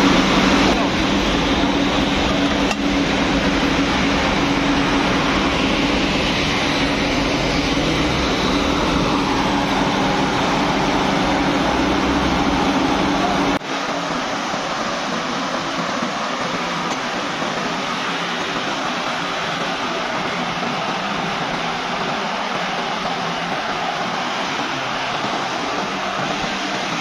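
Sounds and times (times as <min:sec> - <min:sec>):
factory machinery hiss: 0:00.0 - 0:27.0
low machinery hum: 0:00.0 - 0:27.0.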